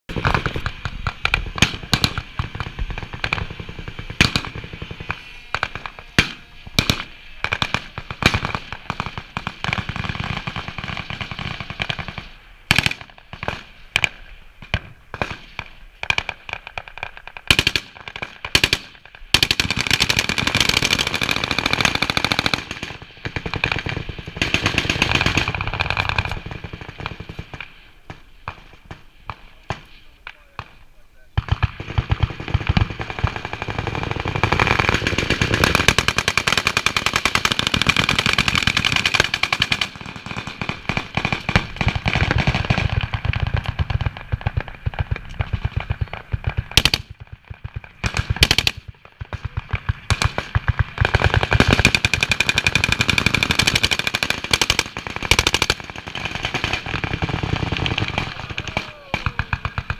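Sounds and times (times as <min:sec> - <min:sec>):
sharp bangs and crackling: 0:00.1 - 0:59.9.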